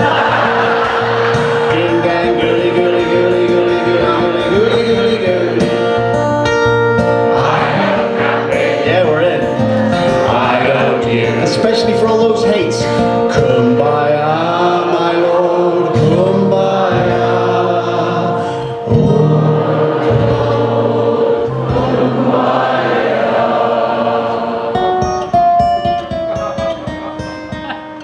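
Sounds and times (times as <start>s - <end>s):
person singing folk song: 0.0s - 26.2s
acoustic guitar: 0.0s - 28.0s.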